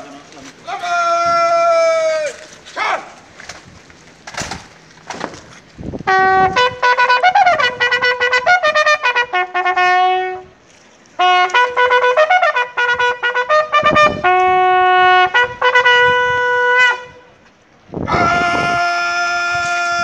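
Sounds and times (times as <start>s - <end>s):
bugle call: 0.0s - 3.3s, 6.0s - 10.6s, 11.2s - 17.4s, 18.0s - 20.0s.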